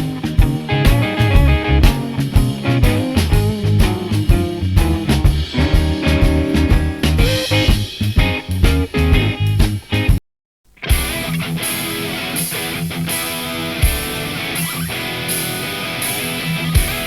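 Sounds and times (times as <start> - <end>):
rock music through earphones: 0.0 - 10.2, 10.8 - 17.0.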